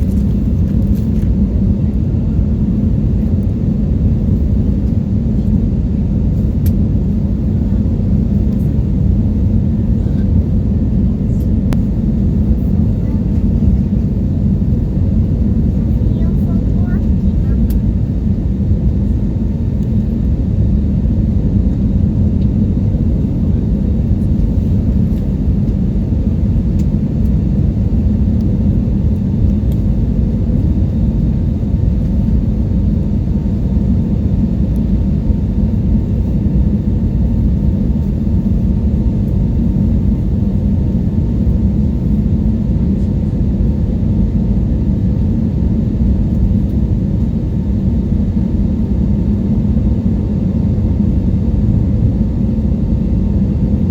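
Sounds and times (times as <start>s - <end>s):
airliner cabin drone: 0.0s - 53.9s.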